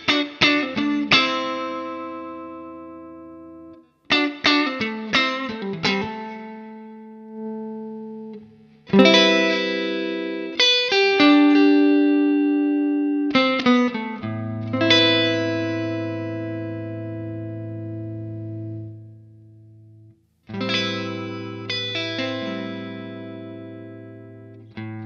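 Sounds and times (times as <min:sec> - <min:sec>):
electric guitar notes and chords: 0:00.0 - 0:25.0.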